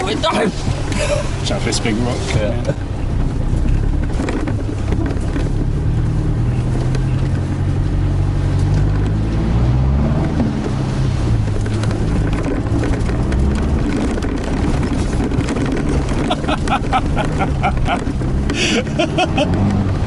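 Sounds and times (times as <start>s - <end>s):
truck engine running: 0.0s - 20.0s
knocks and rattles: 2.6s - 9.2s, 10.2s - 20.0s.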